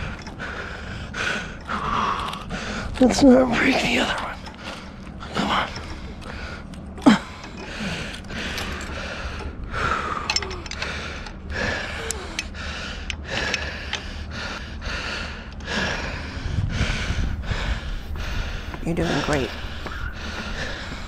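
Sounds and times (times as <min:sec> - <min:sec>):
man breathing hard: 0:00.0 - 0:03.0, 0:04.4 - 0:21.0.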